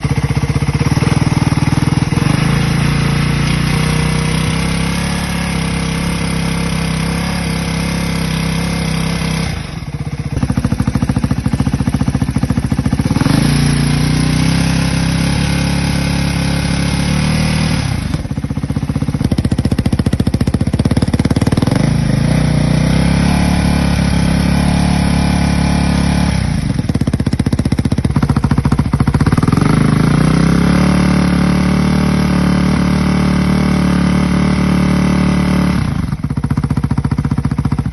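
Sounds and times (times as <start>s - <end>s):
single-cylinder motorcycle engine: 0.0s - 37.9s.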